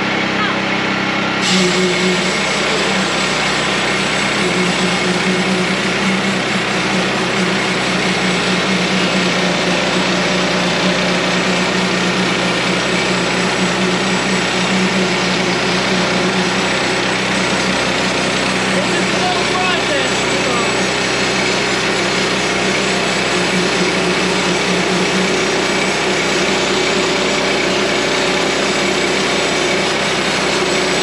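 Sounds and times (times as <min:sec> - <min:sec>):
bandsaw mill engine running: 0:00.0 - 0:31.0
saw blade cutting log: 0:01.4 - 0:31.0.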